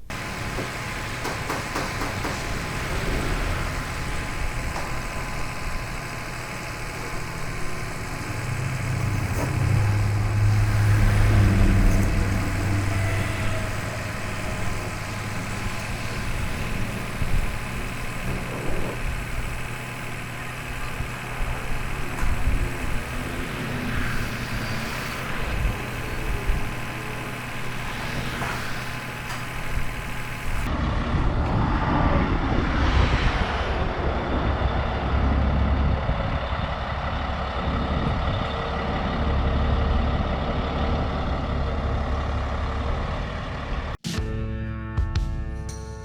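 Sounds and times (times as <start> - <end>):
heavy engine humming: 0.0 - 44.0.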